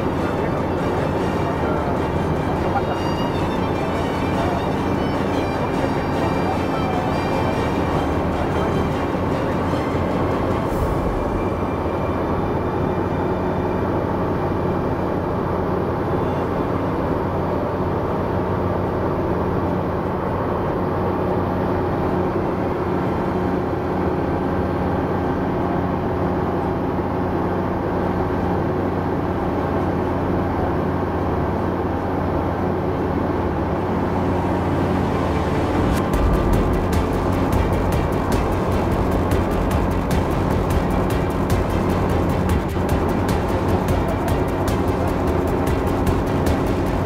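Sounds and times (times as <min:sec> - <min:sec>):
light aircraft engine droning: 0:00.0 - 0:47.0.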